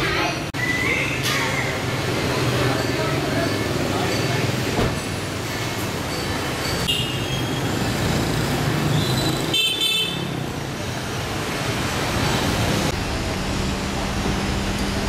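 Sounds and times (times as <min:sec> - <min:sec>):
busy street traffic: 0:00.0 - 0:15.0
motorbikes passing: 0:00.8 - 0:15.0.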